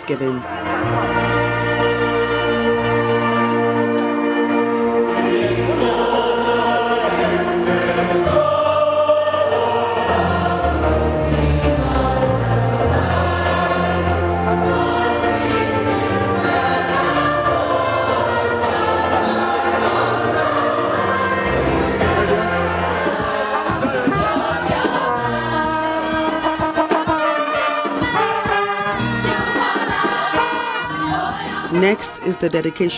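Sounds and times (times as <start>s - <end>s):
choir singing a hymn: 0.2s - 32.8s.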